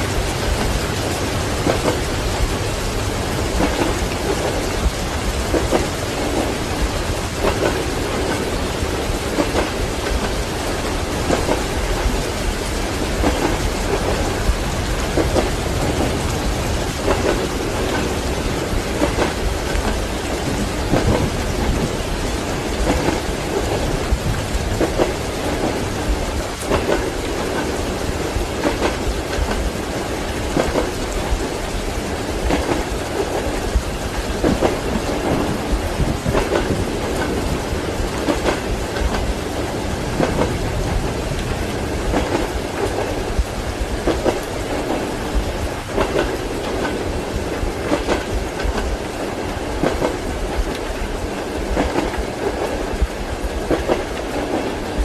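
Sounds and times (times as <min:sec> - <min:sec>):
rumbling thunder: 0:00.0 - 0:48.9
heavy rain: 0:00.0 - 0:55.0
train rolling: 0:00.0 - 0:55.0.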